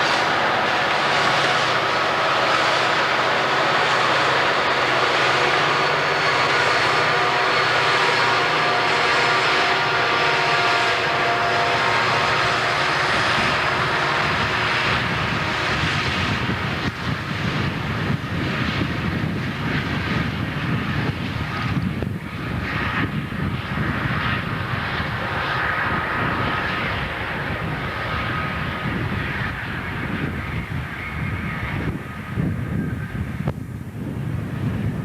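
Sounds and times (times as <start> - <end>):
diesel locomotive engines: 0.0 - 35.0
turbo whine: 0.0 - 35.0.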